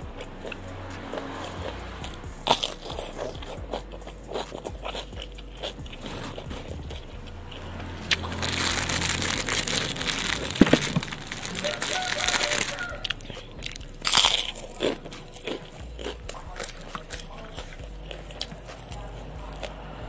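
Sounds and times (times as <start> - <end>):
biting and chewing cucumber: 0.0 - 19.9.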